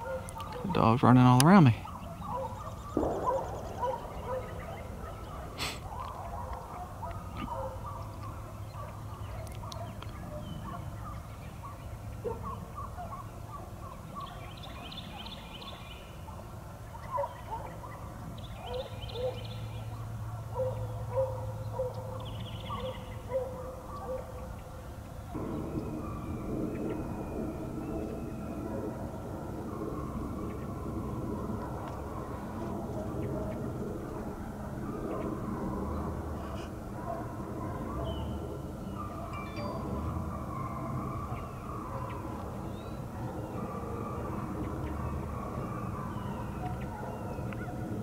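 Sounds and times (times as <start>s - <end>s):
hounds baying and barking: 0.0s - 48.0s.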